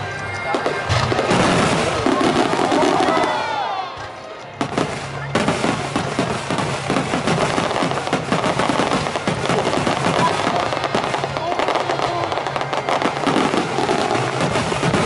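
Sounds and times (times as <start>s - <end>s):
firework crackle: 0.0s - 3.9s, 4.6s - 15.0s.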